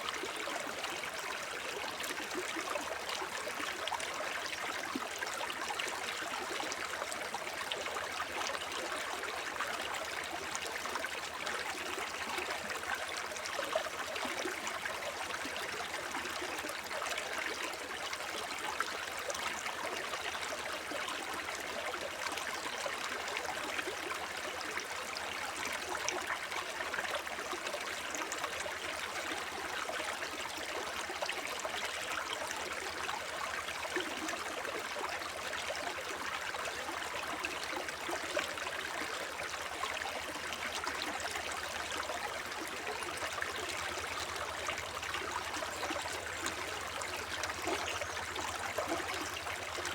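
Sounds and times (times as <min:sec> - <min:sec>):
brook babbling over stones: 0:00.0 - 0:49.9.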